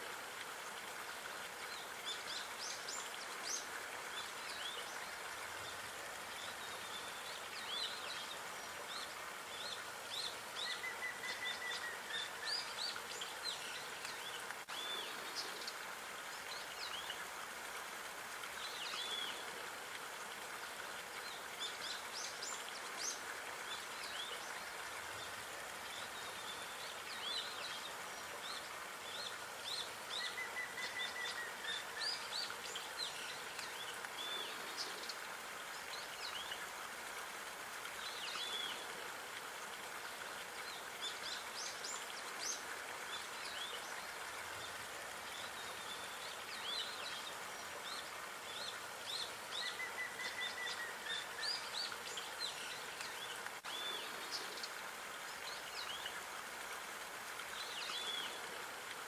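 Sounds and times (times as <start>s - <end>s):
running water hiss: 0.0s - 59.0s
songbirds chirping: 0.3s - 59.0s.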